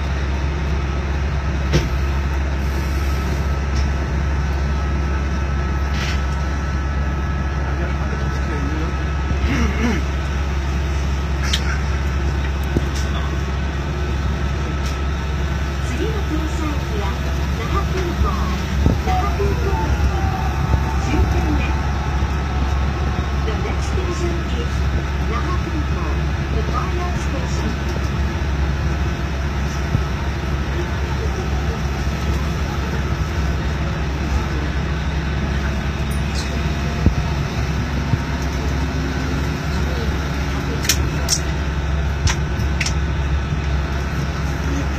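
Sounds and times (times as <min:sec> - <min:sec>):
monorail car rumble: 0:00.0 - 0:44.9.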